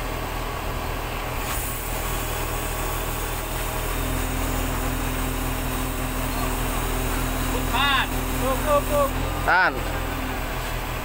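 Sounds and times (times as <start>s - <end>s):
crane diesel engine running: 0.0s - 11.0s.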